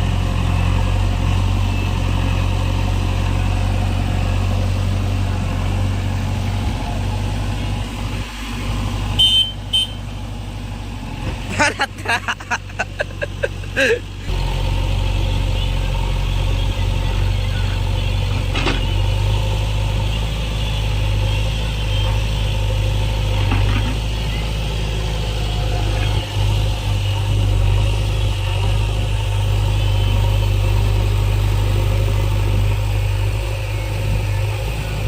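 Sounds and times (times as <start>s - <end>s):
backhoe diesel engine running: 0.0s - 35.0s.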